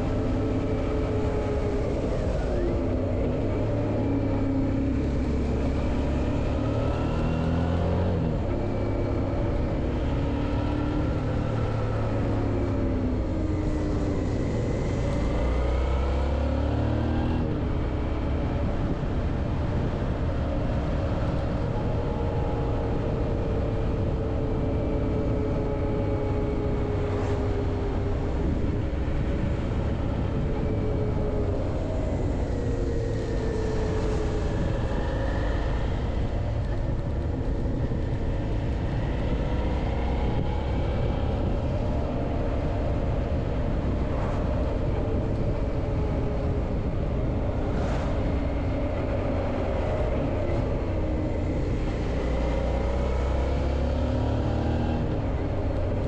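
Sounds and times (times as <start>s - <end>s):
rushing wind noise: 0.0s - 56.0s.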